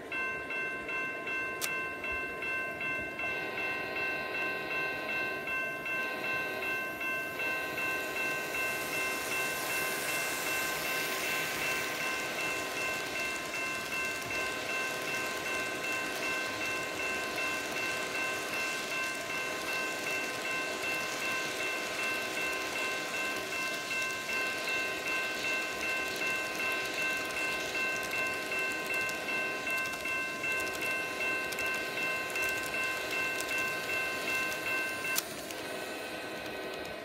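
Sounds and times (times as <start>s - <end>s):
electronic crossing bell ringing: 0.0s - 36.4s
model locomotive engine sound: 0.0s - 37.0s
model train wheels clattering: 7.4s - 37.0s.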